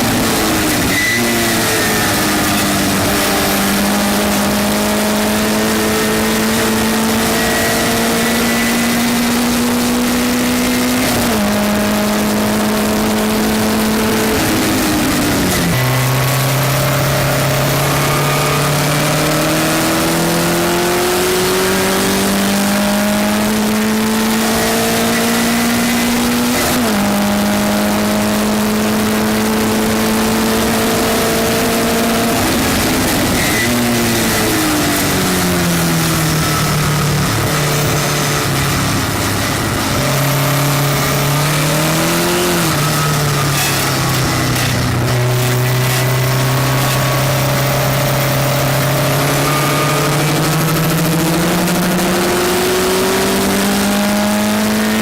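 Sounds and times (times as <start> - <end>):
race car engine accelerating: 0.0 - 55.0
wind and road noise: 0.0 - 55.0.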